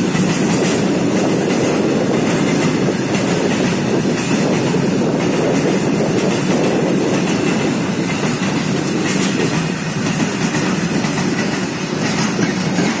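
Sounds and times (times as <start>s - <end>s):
train wheels rumbling on rails: 0.0s - 13.0s
wheels clacking on rail joints: 0.0s - 13.0s.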